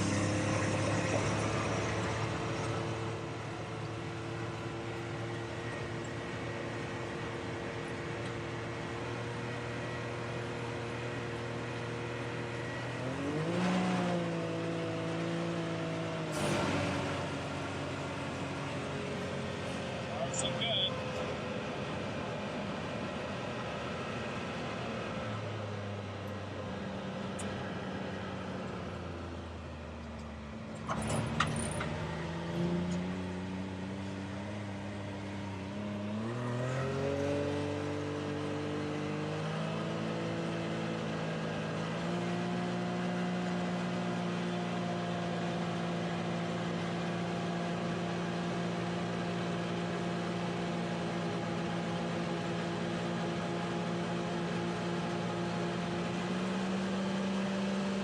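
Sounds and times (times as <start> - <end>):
three-cylinder engine accelerating: 0.0 - 58.0.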